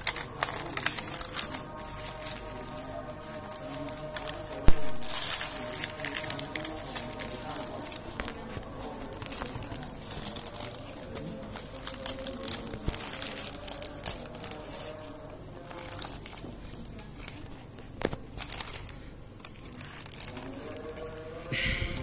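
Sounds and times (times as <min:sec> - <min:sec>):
paper wrapping crinkling: 0:00.0 - 0:22.0.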